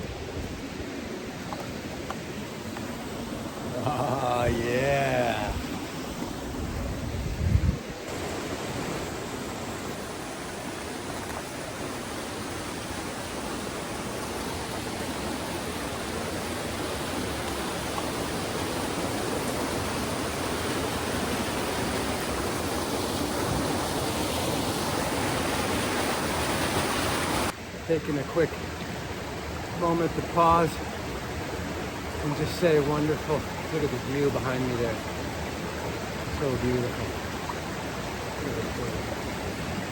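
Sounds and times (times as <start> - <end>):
waterfall rushing: 0.0 - 7.3, 7.9 - 39.9.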